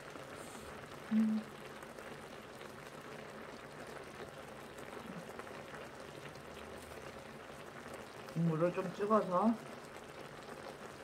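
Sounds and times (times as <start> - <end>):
food bubbling in a pan: 0.0 - 11.0.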